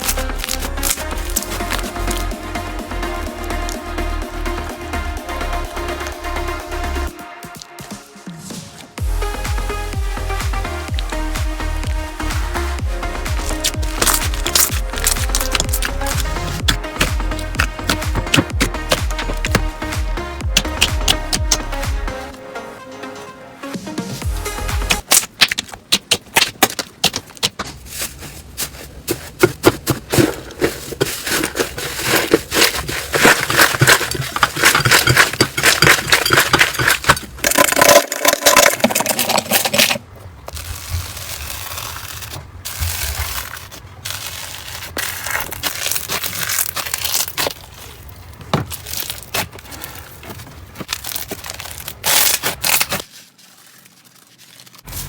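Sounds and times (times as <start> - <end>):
crunchy slime crackling by hand: 0.0 - 4.8, 12.4 - 22.1, 24.8 - 55.0.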